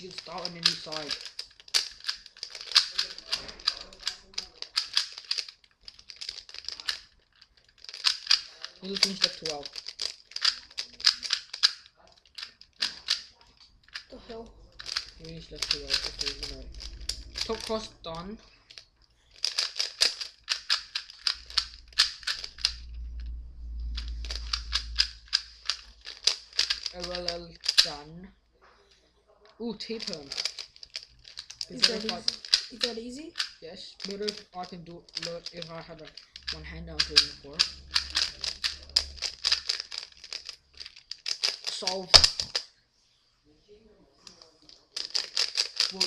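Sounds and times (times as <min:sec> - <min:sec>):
plastic puzzle cube clicking: 0:00.0 - 0:17.9, 0:18.7 - 0:23.2, 0:23.8 - 0:28.0, 0:29.8 - 0:42.6, 0:44.2 - 0:46.0.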